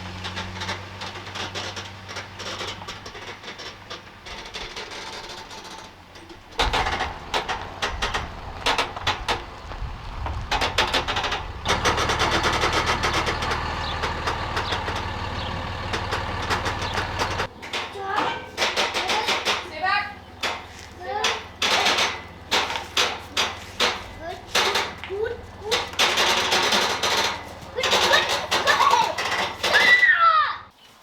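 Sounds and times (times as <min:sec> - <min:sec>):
vehicle engine running: 0:00.0 - 0:29.7
clattering knocks: 0:00.0 - 0:30.0.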